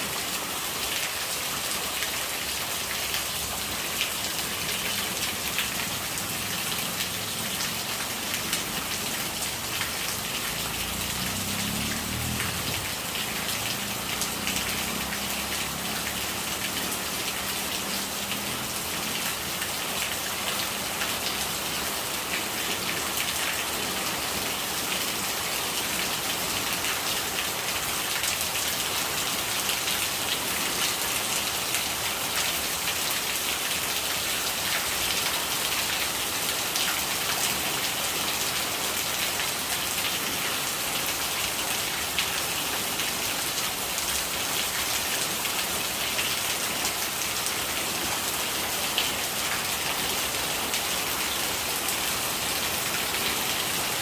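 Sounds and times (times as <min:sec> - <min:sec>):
rainwater gurgling: 0:00.0 - 0:54.0
steady rain falling: 0:00.0 - 0:54.0.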